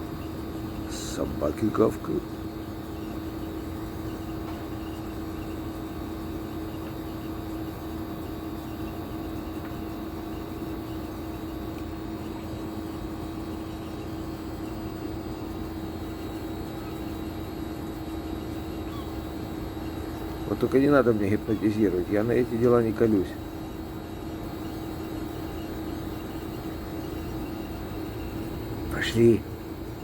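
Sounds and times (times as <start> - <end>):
steady motor hum: 0.0 - 30.0.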